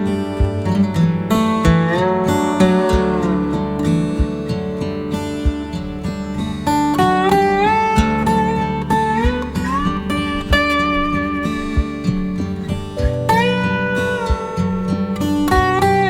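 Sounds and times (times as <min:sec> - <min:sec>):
guitar sliding sustained notes: 0:00.0 - 0:16.0
steady low beat: 0:00.0 - 0:16.0.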